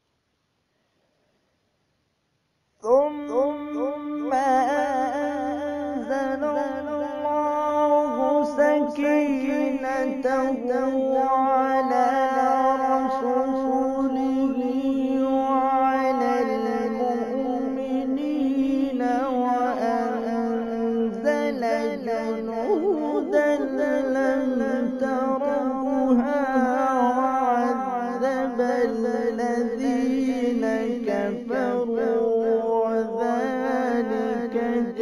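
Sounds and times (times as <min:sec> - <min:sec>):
man reciting melodically: 0:02.8 - 0:35.0.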